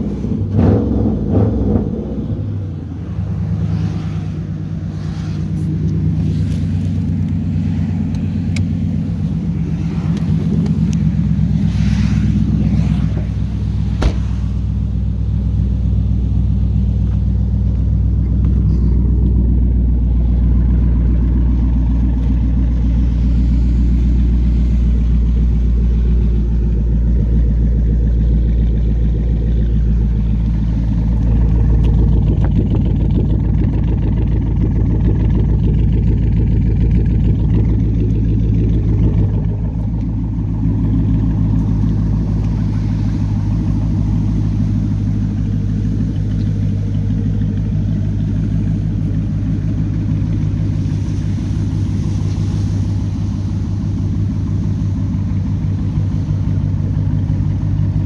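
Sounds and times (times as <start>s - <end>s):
car engine idling loudly: 0.0s - 58.0s.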